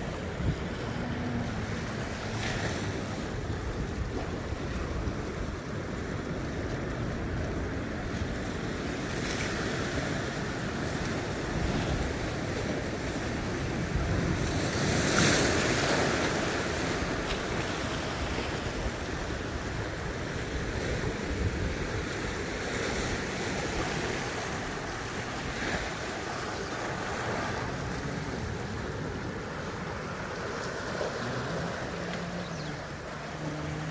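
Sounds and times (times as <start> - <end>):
sea waves washing over rocks: 0.0 - 33.9.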